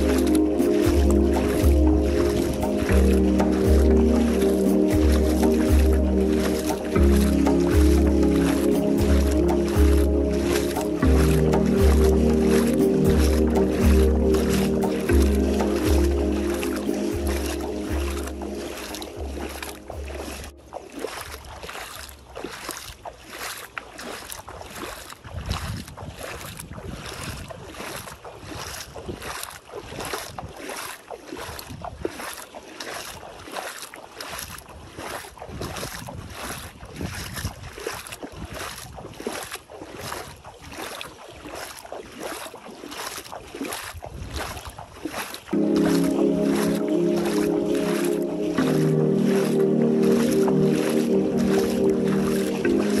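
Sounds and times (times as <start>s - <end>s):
wind rumbling on microphone: 0.0s - 23.4s, 24.4s - 32.4s, 34.3s - 42.3s, 43.2s - 53.0s
seawater swishing around feet: 0.0s - 53.0s.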